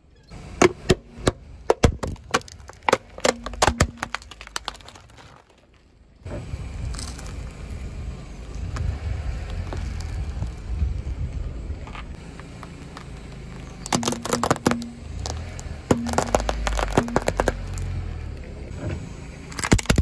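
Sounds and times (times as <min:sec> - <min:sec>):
car tyre rolling with low rumble: 0:00.1 - 0:20.0
crackling and snapping under tyre: 0:00.6 - 0:20.0.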